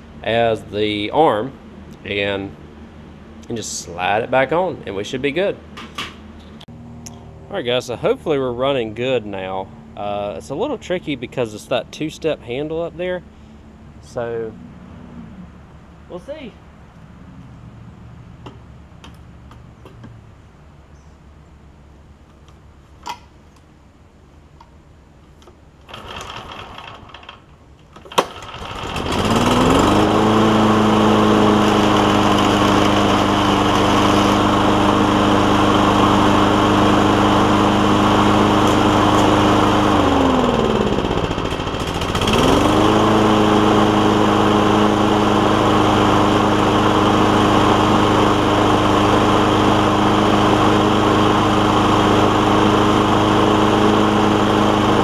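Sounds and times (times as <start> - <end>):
lawn mower engine running: 0.0 - 20.8, 24.2 - 55.0.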